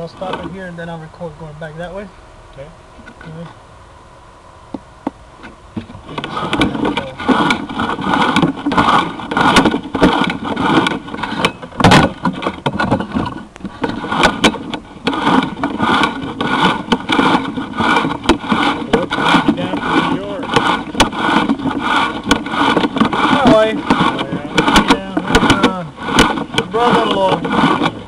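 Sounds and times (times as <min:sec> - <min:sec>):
cable scraping and rattling: 0:00.0 - 0:02.1, 0:05.4 - 0:28.0.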